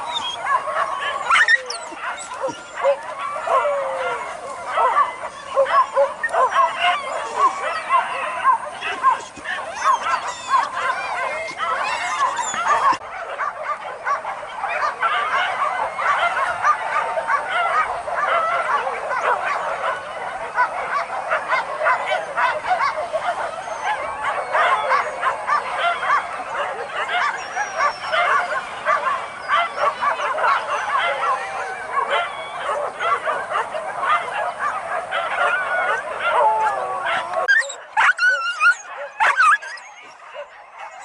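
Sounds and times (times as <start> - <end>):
dogs barking and yelping: 0.0 - 41.0.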